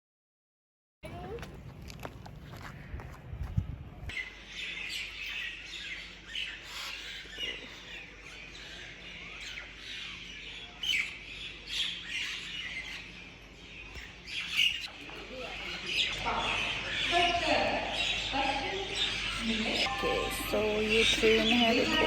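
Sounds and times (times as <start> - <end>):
small birds chirping: 1.0 - 22.0.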